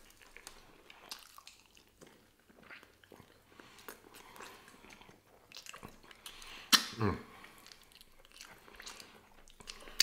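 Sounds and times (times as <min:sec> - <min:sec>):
faint close-up chewing: 0:00.0 - 0:10.0.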